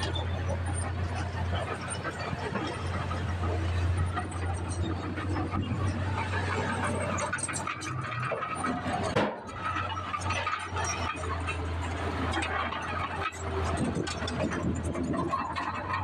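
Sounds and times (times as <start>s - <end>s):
soil and rock sliding: 0.0s - 16.0s
truck engines running: 0.0s - 16.0s.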